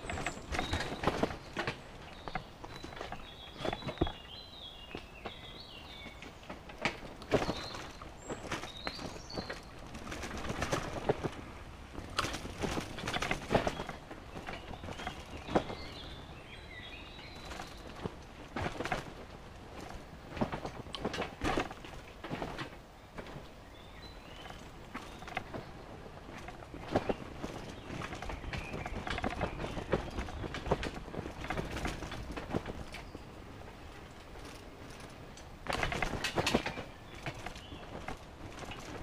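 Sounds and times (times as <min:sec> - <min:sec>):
bicycle rattling over bumps: 0:00.0 - 0:39.0
birds chirping: 0:00.0 - 0:39.0
low rolling noise: 0:00.0 - 0:39.0.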